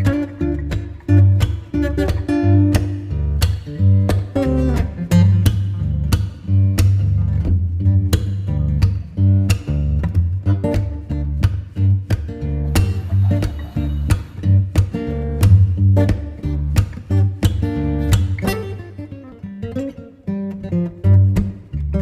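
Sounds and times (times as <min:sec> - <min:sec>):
bass line: 0:00.0 - 0:18.4
plucked acoustic guitar: 0:00.0 - 0:22.0.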